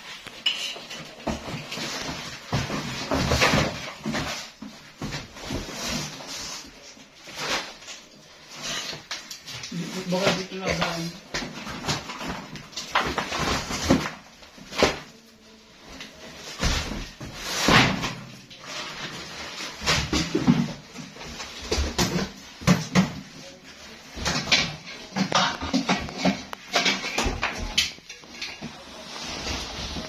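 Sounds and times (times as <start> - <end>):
cardboard boxes being rummaged: 1.0 - 30.0.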